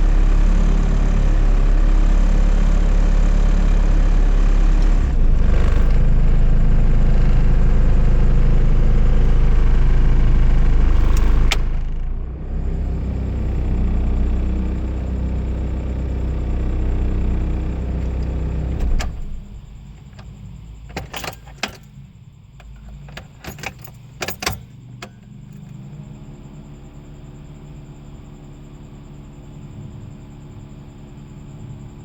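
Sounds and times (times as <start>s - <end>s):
car engine running: 0.0s - 32.0s
faint steady hum: 0.0s - 32.0s.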